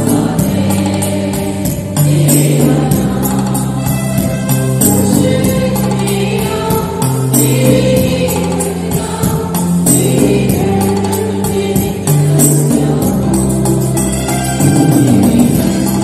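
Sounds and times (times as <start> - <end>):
male choir singing a hymn: 0.0 - 16.0
sharp high percussion beat: 0.0 - 16.0.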